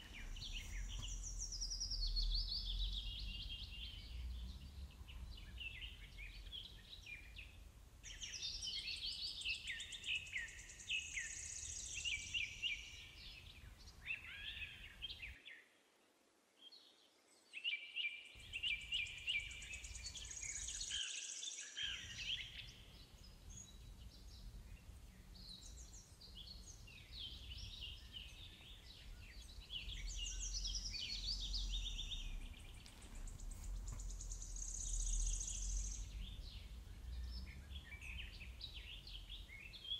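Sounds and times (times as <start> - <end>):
birds singing and chirping: 0.0 - 15.4, 17.6 - 39.9.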